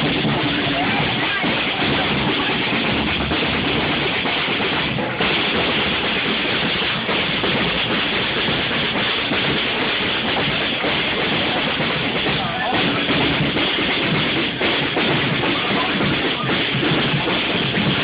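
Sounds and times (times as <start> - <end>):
drums: 0.0 - 18.0
street band playing: 0.0 - 18.0.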